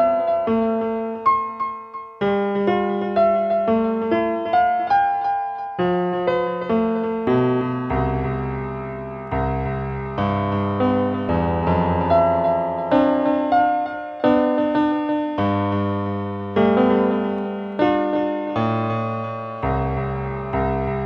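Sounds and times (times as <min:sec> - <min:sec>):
piano chords and melody: 0:00.0 - 0:21.0.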